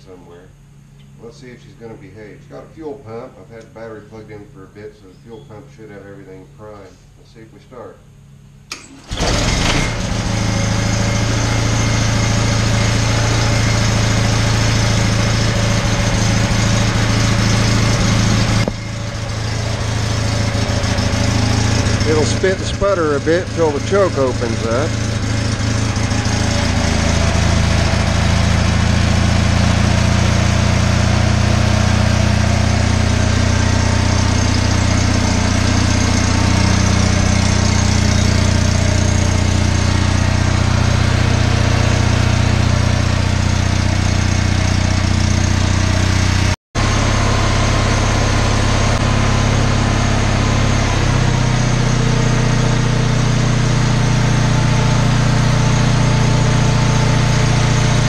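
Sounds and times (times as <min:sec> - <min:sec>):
generator engine running: 0:08.2 - 0:58.0.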